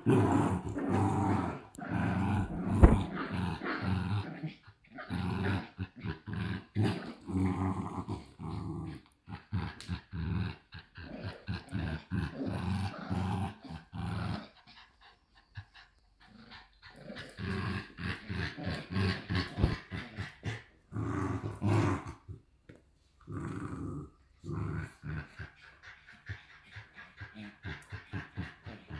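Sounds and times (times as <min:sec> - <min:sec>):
dogs growling in play: 0:00.0 - 0:28.9.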